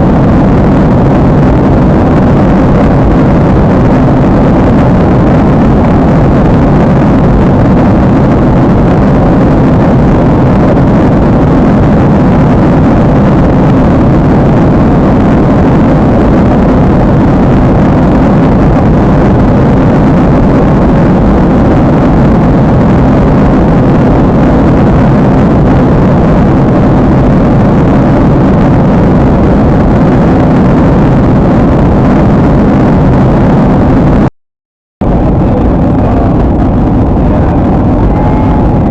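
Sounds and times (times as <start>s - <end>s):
jet engine and airflow noise: 0.0s - 34.3s, 35.0s - 38.9s.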